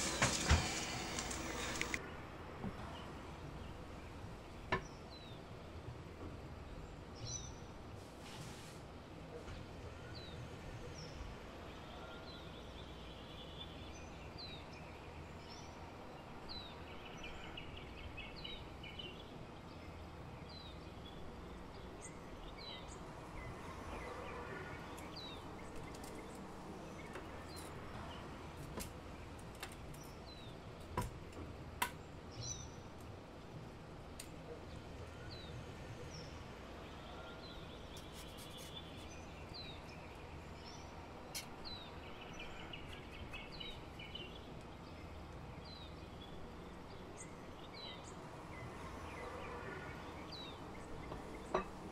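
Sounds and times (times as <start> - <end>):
small birds chirping: 0.0 - 7.9, 9.6 - 51.9
faint background noise: 0.0 - 51.9.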